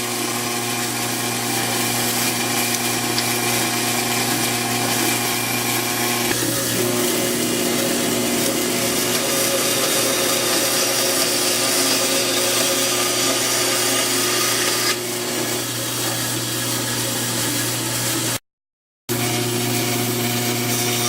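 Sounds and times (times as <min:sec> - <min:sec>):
power tool cutting wood: 0:00.0 - 0:18.4, 0:19.1 - 0:21.0.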